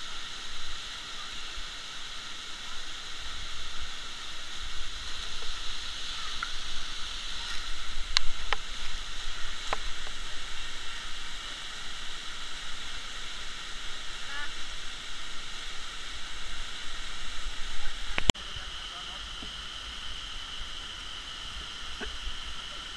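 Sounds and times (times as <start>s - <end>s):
waterfall and river rushing: 0.0s - 22.9s.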